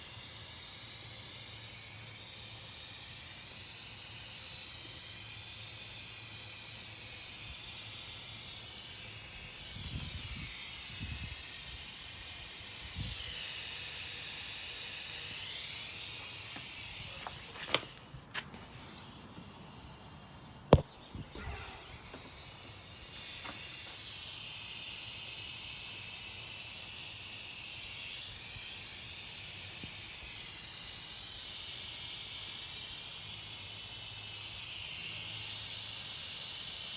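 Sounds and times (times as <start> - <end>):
high hiss of air: 0.4 - 36.9.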